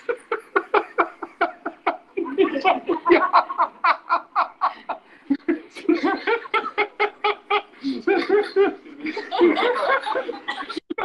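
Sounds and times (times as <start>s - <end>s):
person laughing heartily: 0.0s - 11.0s.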